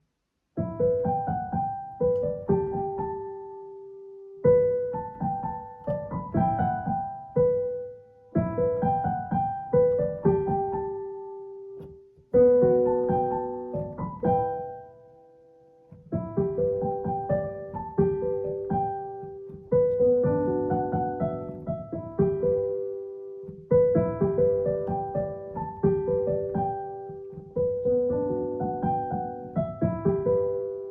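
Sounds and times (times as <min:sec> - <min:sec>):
slow solo piano melody: 0:00.6 - 0:30.9.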